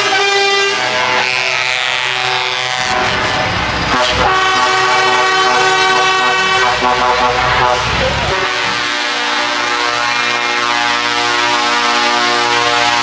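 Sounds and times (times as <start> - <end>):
truck air horns: 0.0 - 13.0
truck engine rumble: 0.0 - 13.0.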